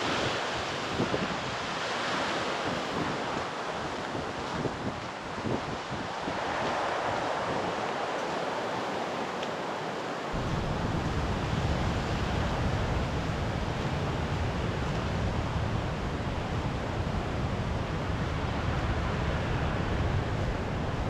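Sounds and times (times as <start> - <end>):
wind rumbling on microphone: 0.0 - 1.8, 2.6 - 8.1, 10.3 - 21.0
sea waves washing on shore: 0.0 - 21.0.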